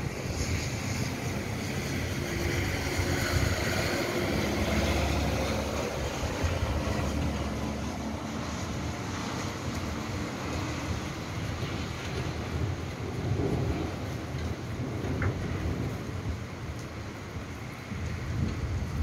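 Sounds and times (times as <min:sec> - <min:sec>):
rain falling on street: 0:00.0 - 0:19.0
wind rumbling on microphone: 0:00.0 - 0:19.0.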